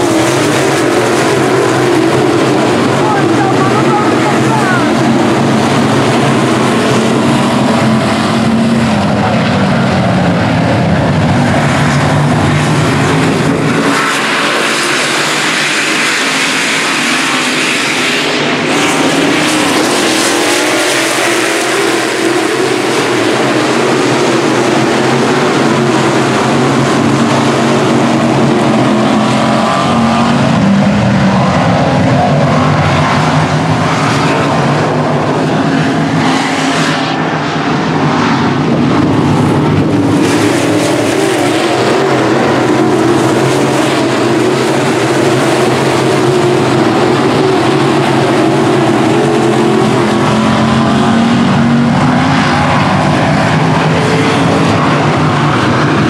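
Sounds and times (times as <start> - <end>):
race car engines passing by: 0.0 - 56.0.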